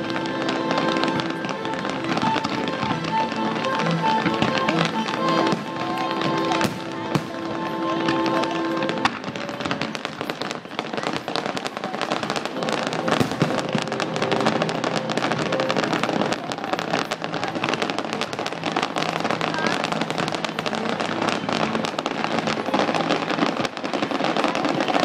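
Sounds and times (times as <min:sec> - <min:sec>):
fireworks bursting and crackling: 0:00.0 - 0:25.0
music: 0:00.0 - 0:25.0.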